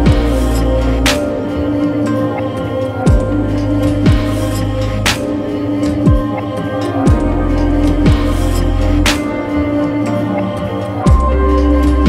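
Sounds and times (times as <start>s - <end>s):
instrumental music with chords: 0.0s - 12.0s.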